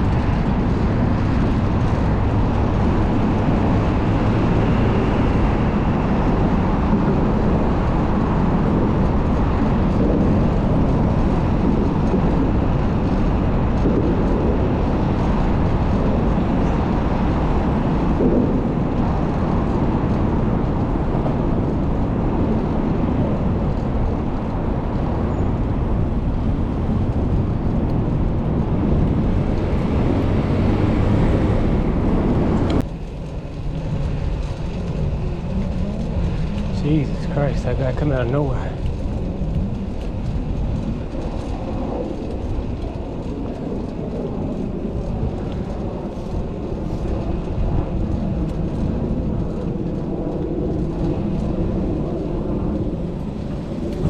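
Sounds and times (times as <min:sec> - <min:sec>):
city street traffic: 0:00.0 - 0:54.0
wind rushing on microphone: 0:00.0 - 0:54.0.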